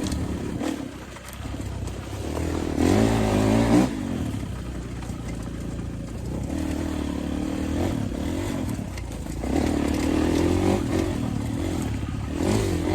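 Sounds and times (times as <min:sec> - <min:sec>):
motocross engine under throttle: 0:00.0 - 0:12.9.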